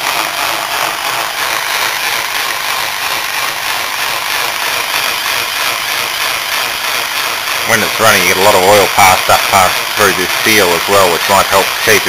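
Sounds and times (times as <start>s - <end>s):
compressor pump whirring: 0.0s - 12.0s.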